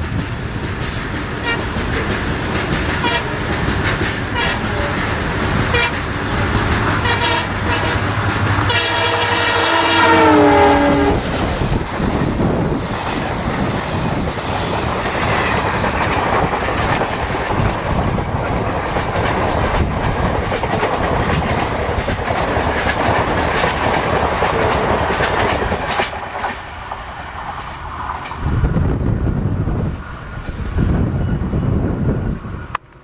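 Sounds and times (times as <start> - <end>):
train wheels clattering past: 0.0 - 28.4.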